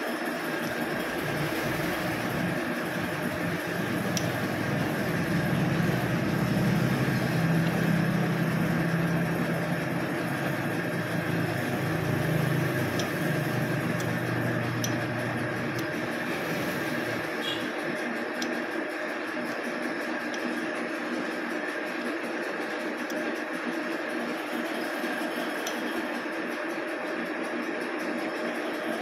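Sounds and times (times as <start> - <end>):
metal lathe humming and whining: 0.0 - 29.0.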